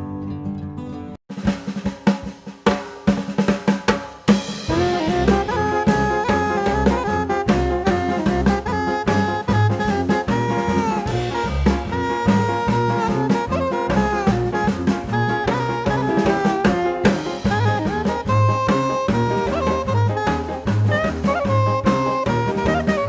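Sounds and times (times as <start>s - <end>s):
upbeat jazz music: 4.3s - 23.0s.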